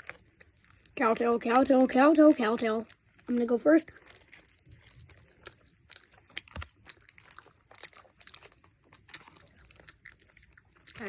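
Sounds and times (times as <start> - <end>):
person chewing candy: 0.0 - 11.0
plastic wrapper crackling: 0.0 - 11.0.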